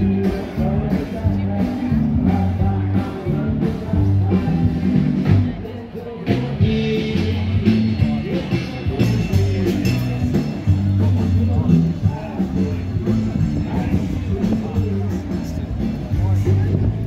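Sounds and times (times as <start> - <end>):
person singing: 0.0 - 17.0
rock and roll music: 0.0 - 17.0.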